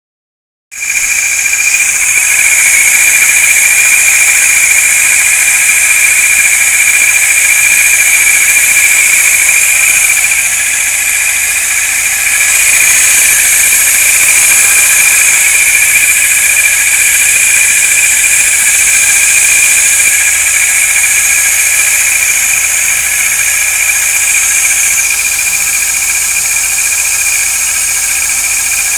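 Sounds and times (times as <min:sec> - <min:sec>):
loud hiss: 0:00.8 - 0:28.4
alternator whine: 0:00.8 - 0:28.9.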